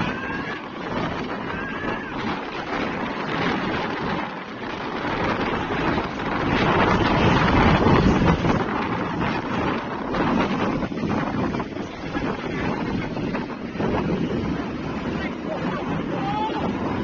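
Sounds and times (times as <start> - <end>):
road traffic rumble: 0.0 - 17.0
wind buffeting microphone: 0.0 - 17.0.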